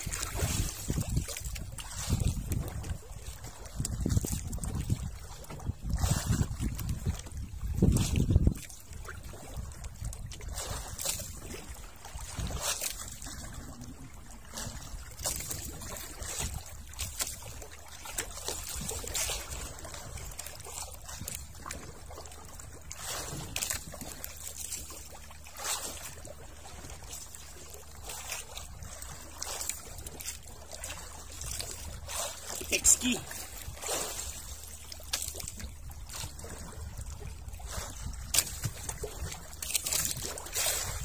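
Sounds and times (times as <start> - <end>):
water lapping against boat hull: 0.0 - 41.0.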